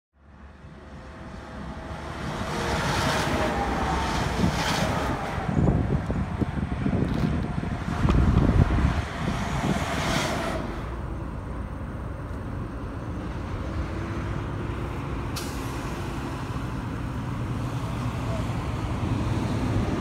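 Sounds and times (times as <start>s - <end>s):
truck engine drone: 0.2s - 20.0s
trucks passing on highway: 0.2s - 20.0s.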